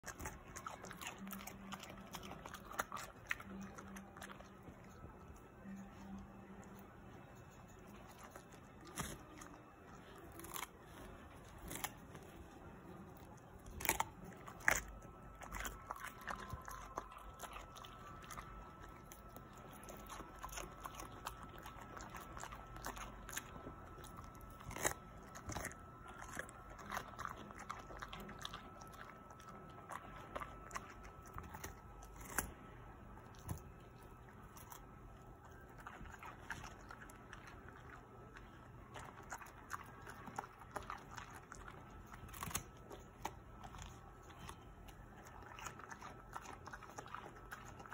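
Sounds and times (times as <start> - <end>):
dog crunching cucumber: 0.0 - 47.9.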